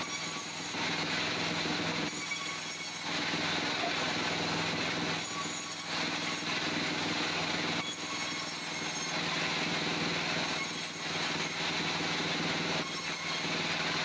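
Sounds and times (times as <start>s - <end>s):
band saw blade cutting log: 0.0s - 14.0s.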